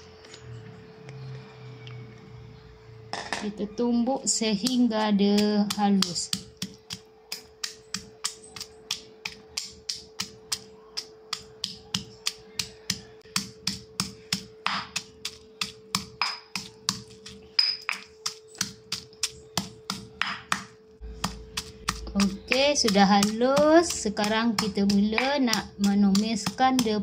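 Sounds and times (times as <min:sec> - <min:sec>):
stone pestle pounding in mortar: 0:04.6 - 0:27.0.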